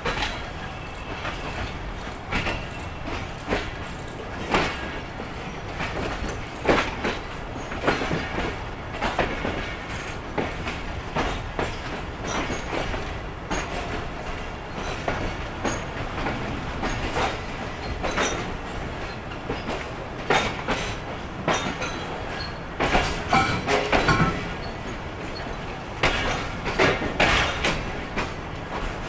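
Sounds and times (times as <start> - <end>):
train wheels rumbling on rails: 0.0 - 29.0
wheels clacking over rail joints: 0.0 - 29.0.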